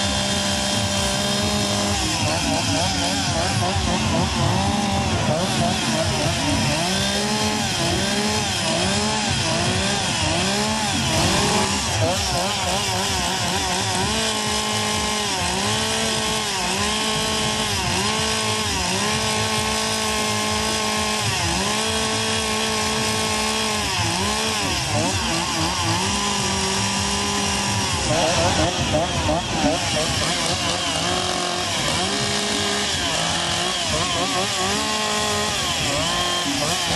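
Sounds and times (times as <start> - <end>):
chainsaw cutting wood: 0.0 - 36.9.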